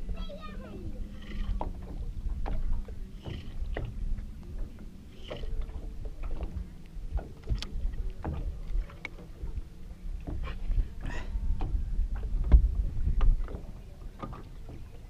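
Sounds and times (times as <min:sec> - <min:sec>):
trolling motor electric hum: 0:00.0 - 0:15.0
water slapping boat hull: 0:00.0 - 0:15.0
wind on microphone: 0:00.0 - 0:15.0.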